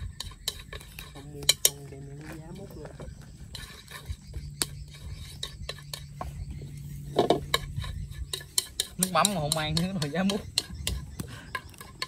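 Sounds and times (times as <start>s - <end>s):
chopsticks scraping a wok: 0.0s - 12.0s.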